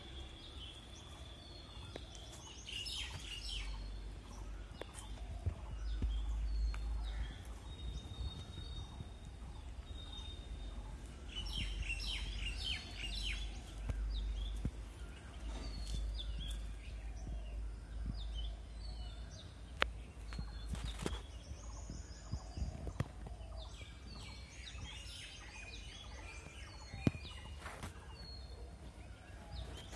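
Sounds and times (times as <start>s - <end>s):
steady low rumble: 0.0s - 27.4s
birds chirping and twittering: 0.0s - 29.9s.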